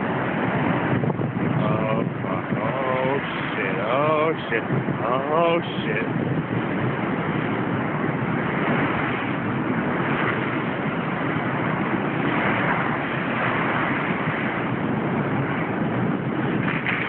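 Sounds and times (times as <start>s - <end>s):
storm waves breaking: 0.0s - 17.0s
wind on microphone: 0.0s - 17.0s.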